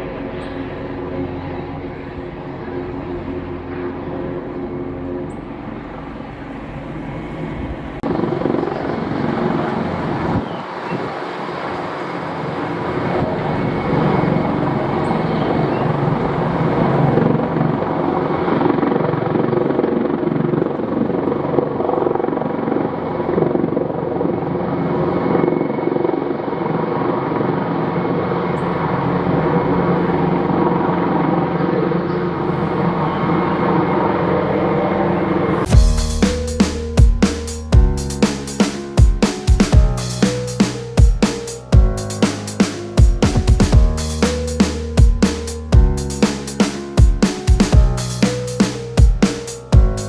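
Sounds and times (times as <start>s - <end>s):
helicopter rotor and turbine hum: 0.0s - 50.0s.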